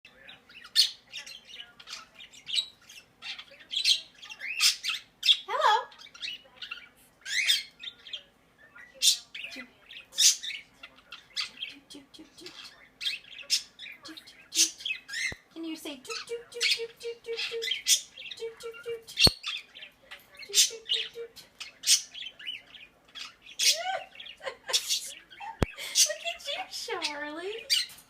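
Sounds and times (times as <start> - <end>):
parrot squawking and chirping: 0.5 - 28.0.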